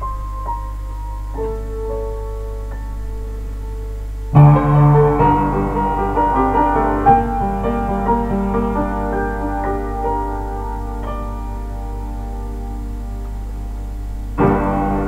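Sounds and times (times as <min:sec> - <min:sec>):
steady low hum: 0:00.0 - 0:15.0
upright piano playing: 0:00.0 - 0:15.0.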